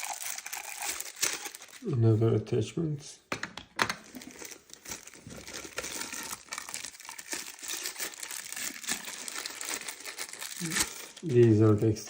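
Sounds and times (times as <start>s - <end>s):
packaging crinkling and rustling: 0.0s - 1.9s, 3.8s - 12.0s.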